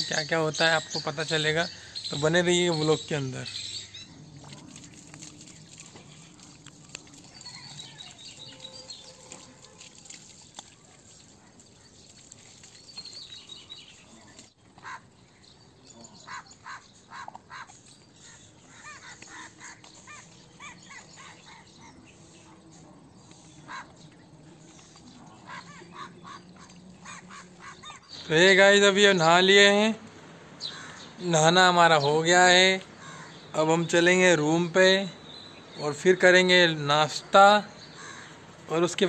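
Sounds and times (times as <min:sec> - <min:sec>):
birds chirping and trilling: 0:00.0 - 0:39.0
faint outdoor background noise: 0:00.0 - 0:39.0.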